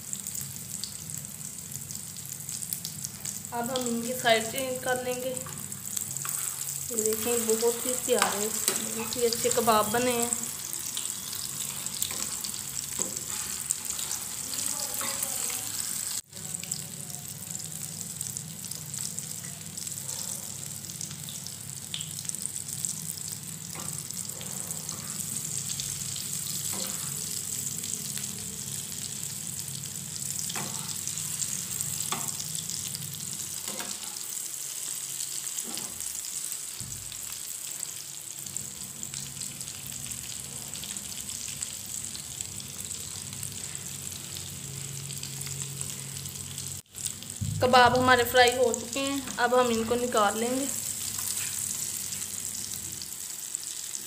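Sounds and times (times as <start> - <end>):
kababs sizzling in a pan: 0.0 - 54.0.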